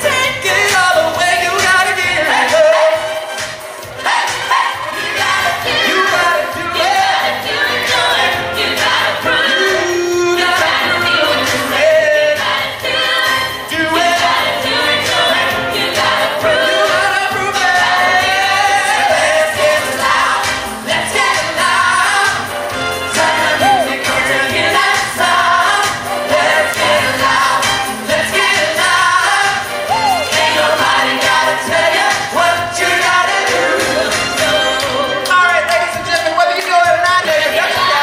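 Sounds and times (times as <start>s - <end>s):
pop dance music with group singing: 0.0s - 38.0s.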